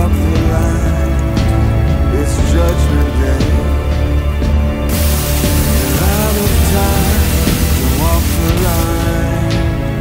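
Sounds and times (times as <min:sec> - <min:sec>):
rock music with bass: 0:00.0 - 0:10.0.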